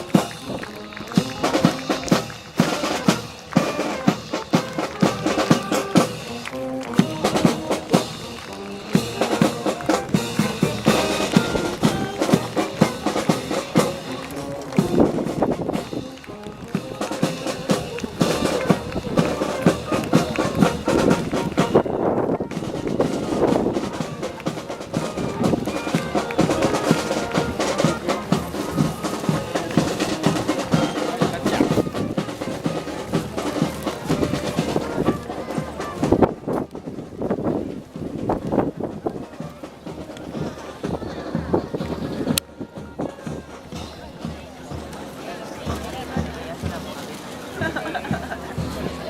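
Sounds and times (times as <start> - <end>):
brass band playing: 0.0 - 49.0
steady drum beat: 0.0 - 49.0.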